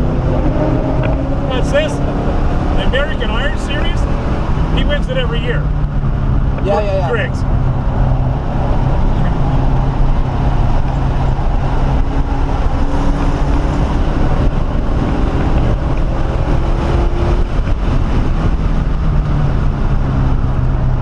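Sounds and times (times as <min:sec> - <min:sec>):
car engine running hard: 0:00.0 - 0:21.0
road noise: 0:00.0 - 0:21.0.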